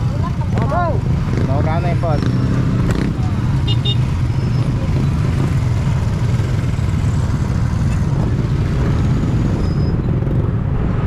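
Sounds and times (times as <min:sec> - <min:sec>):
motorcycle engines rumbling: 0:00.0 - 0:11.0
road noise: 0:00.0 - 0:11.0.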